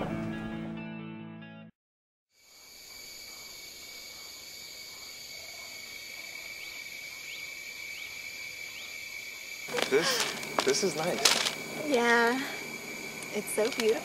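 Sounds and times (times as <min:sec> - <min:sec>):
insects chirring: 0:02.3 - 0:14.0.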